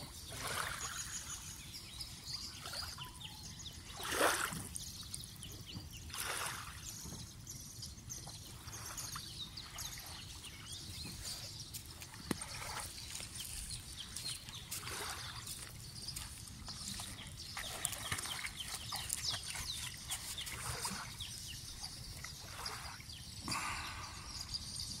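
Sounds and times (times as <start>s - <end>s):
small waves lapping shore: 0.0s - 3.1s, 3.8s - 5.1s, 6.1s - 7.1s, 8.4s - 24.5s
small birds chirping: 0.0s - 25.0s.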